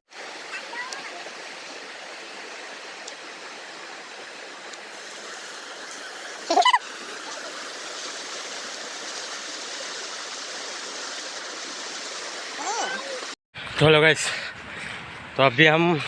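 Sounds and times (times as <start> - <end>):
stream water flowing: 0.1 - 13.4.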